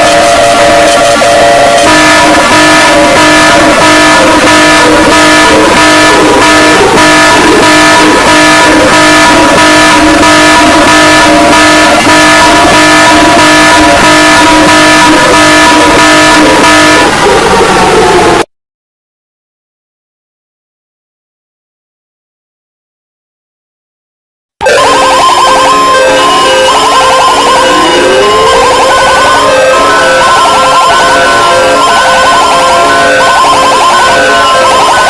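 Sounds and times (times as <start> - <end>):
pulsing alarm tone: 0.0 - 18.4, 24.6 - 35.0.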